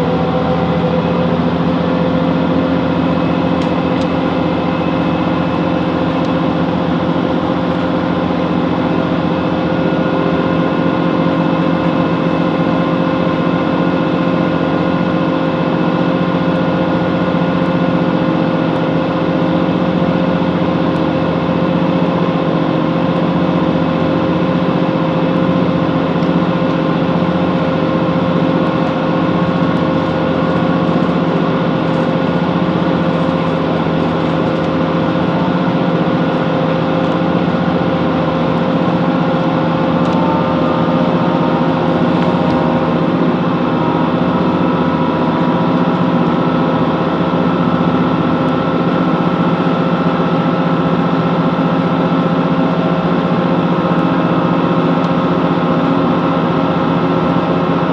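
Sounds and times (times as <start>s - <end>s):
diesel train engine running: 0.0s - 57.9s
train running noise hum: 0.0s - 57.9s.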